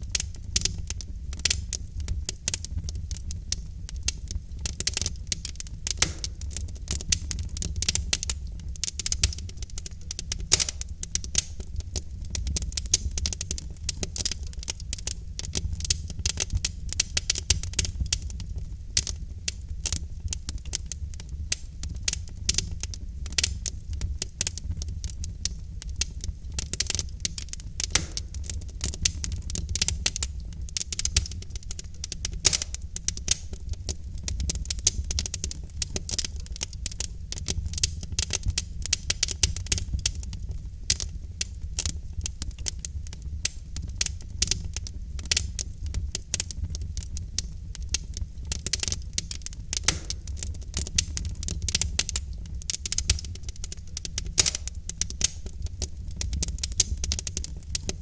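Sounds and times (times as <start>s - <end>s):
fire crackling and popping: 0.0s - 58.0s
low rumble of fire: 0.0s - 58.0s.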